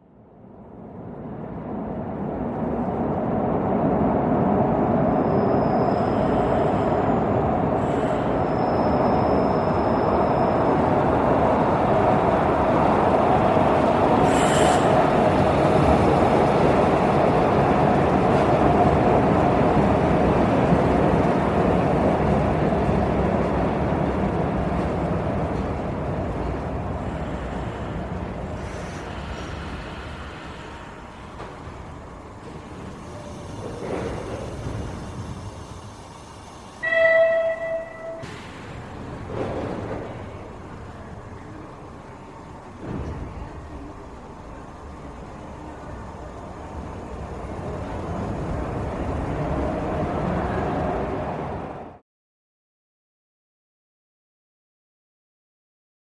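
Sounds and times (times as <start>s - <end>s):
metro train on rails: 0.0s - 52.0s.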